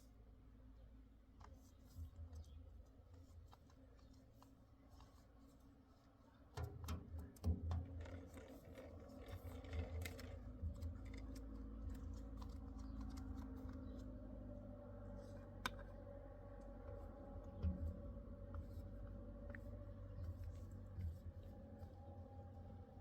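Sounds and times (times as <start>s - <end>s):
light clicks and taps from handling: 1.4s - 22.1s.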